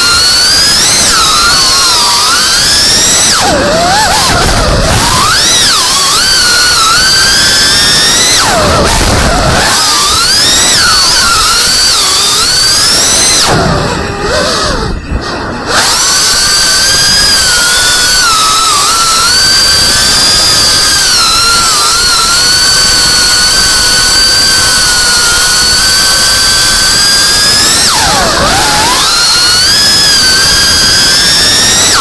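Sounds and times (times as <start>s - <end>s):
drone motors whining: 0.0s - 32.0s.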